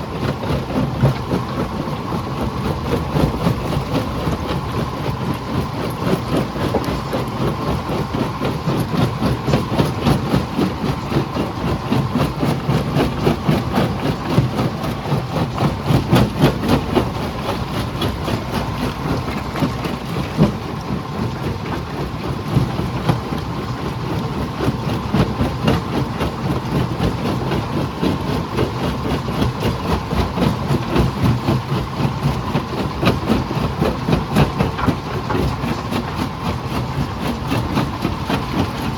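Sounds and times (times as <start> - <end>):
jaw crusher rumble: 0.0 - 38.9.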